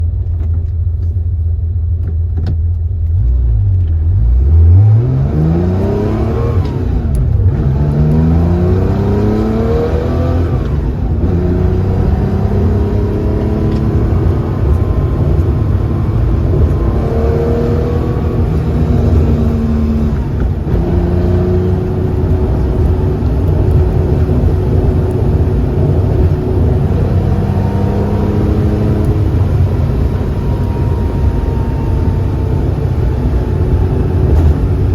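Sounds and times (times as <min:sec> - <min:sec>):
car engine accelerating: 0:02.0 - 0:34.9.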